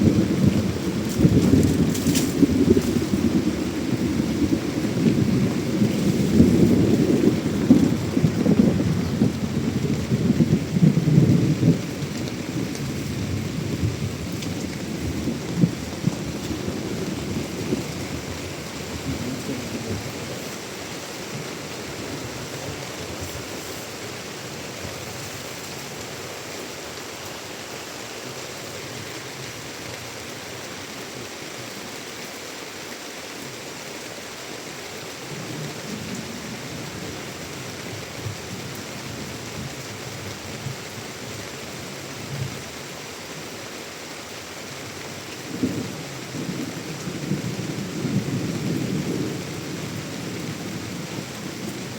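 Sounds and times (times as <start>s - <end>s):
heavy rain hiss: 0.0s - 51.9s.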